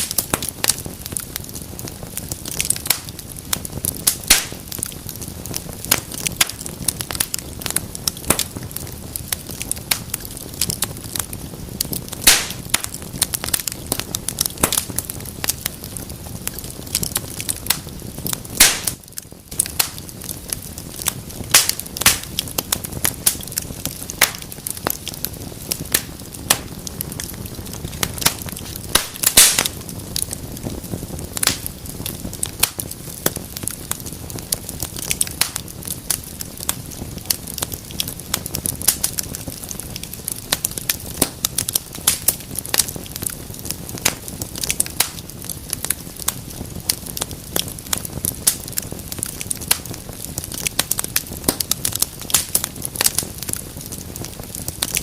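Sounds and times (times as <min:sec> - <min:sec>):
fire crackling and popping: 0:00.0 - 0:55.0
low hiss of burning: 0:00.0 - 0:55.0.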